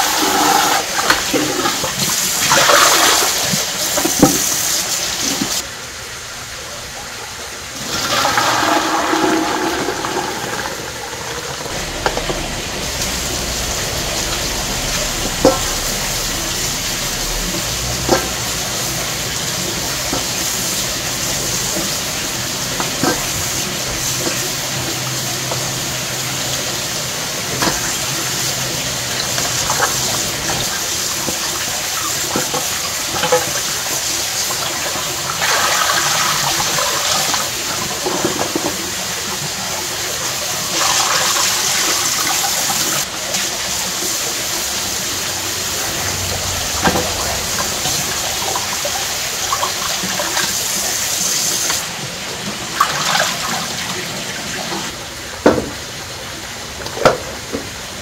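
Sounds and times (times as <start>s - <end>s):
tap water running: 0.0s - 5.7s, 6.6s - 57.9s.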